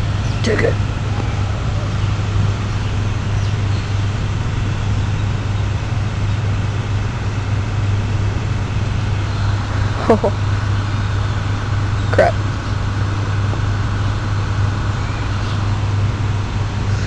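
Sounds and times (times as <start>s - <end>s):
low hum: 0.0s - 17.0s
rushing background noise: 0.0s - 17.0s.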